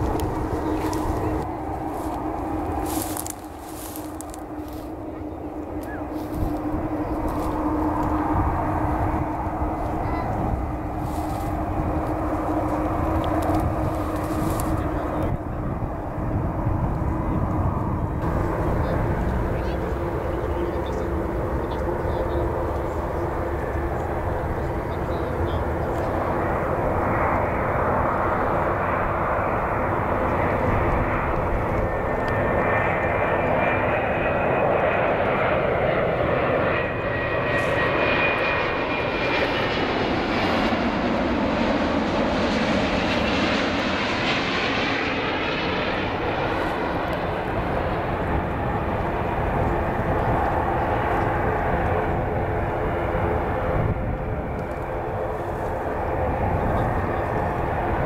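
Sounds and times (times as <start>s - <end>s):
jet airliner passing overhead: 0.0s - 58.0s.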